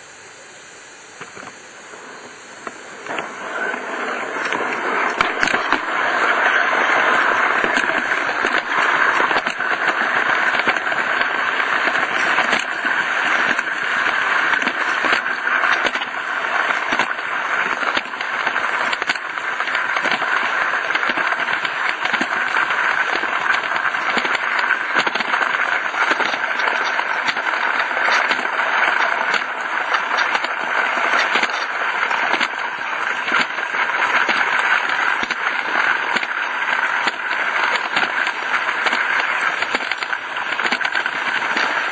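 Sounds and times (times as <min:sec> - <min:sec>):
steam hissing: 0:00.0 - 0:41.9
model train clicking and clatter: 0:02.2 - 0:41.9.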